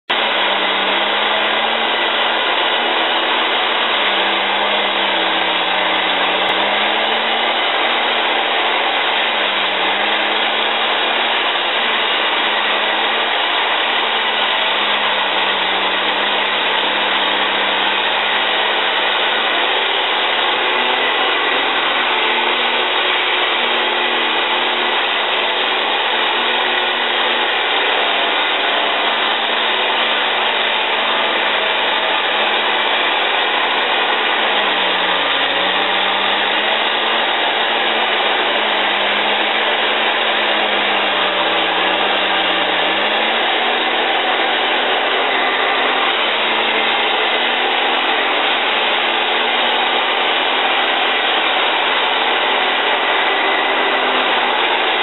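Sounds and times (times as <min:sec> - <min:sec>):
forestry mulcher grinding brush: 0:00.1 - 0:55.0.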